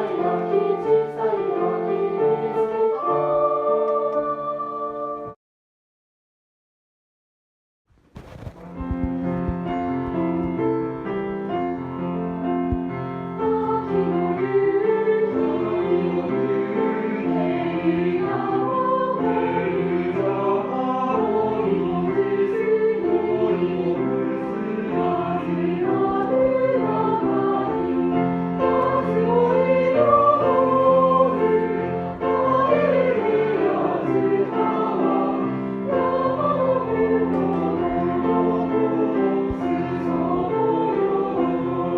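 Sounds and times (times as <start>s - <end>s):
choir singing: 0.0s - 5.4s, 13.3s - 41.9s.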